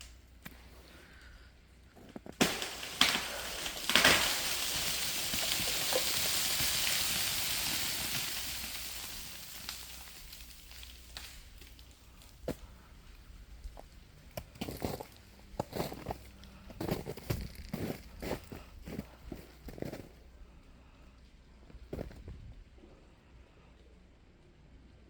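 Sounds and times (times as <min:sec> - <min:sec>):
ice-coated branches crashing: 0:00.0 - 0:20.2
tree cracking: 0:00.0 - 0:20.2.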